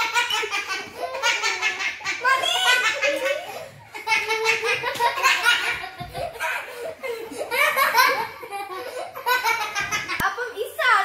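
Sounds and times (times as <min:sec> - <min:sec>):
girls laughing: 0:00.0 - 0:10.6.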